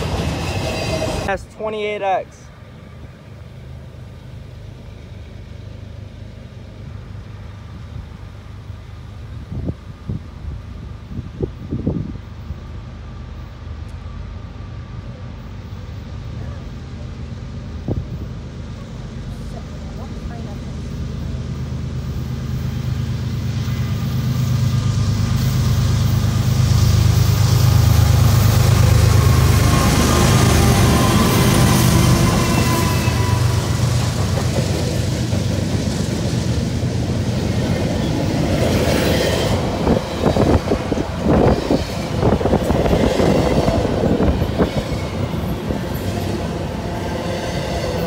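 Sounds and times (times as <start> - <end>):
distant diesel locomotives droning: 0.0 - 48.0.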